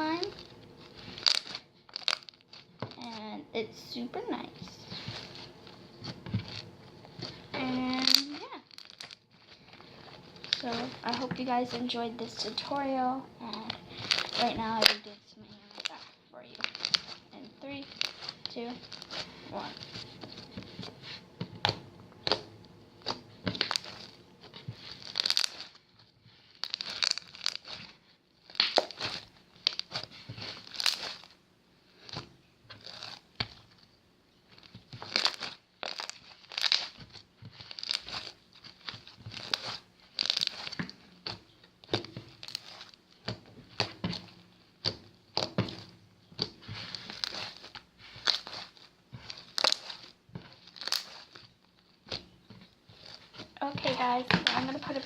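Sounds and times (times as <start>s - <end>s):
crunchy slime squishing: 0.0s - 55.0s.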